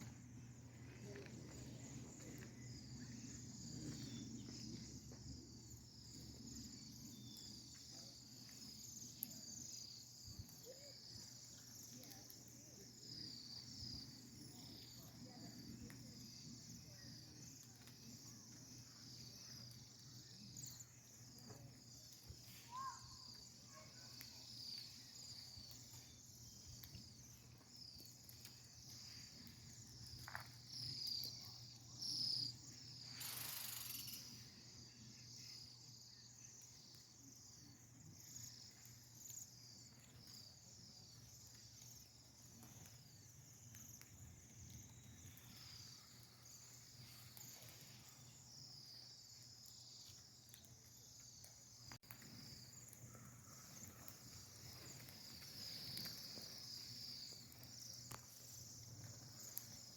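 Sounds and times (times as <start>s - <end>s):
small birds chirping: 1.0s - 59.9s.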